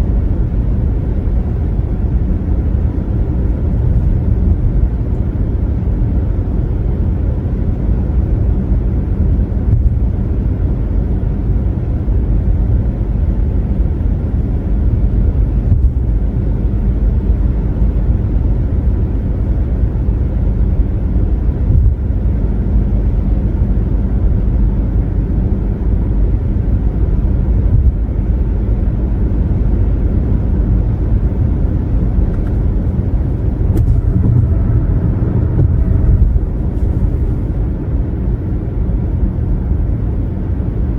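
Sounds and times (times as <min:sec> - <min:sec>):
car driving at highway speed: 0:00.0 - 0:40.9.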